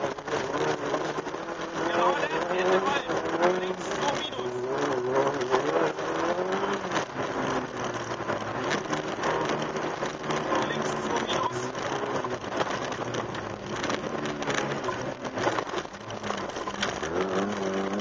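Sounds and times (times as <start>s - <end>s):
grit and ice hitting car: 0.0s - 18.0s
rally car engine: 0.0s - 18.0s
tyre and road noise: 0.0s - 18.0s.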